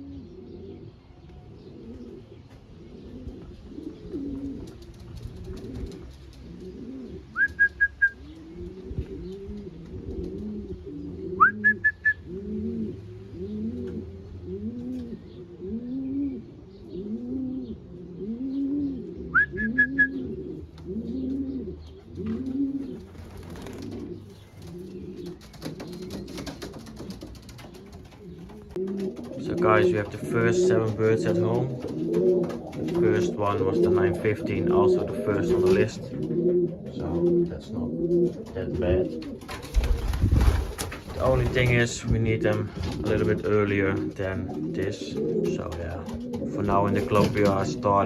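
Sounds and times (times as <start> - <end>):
pigeons cooing: 0.0 - 48.0.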